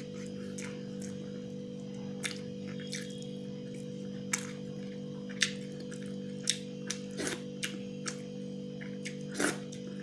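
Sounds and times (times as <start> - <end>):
droning hum: 0.0 - 10.0.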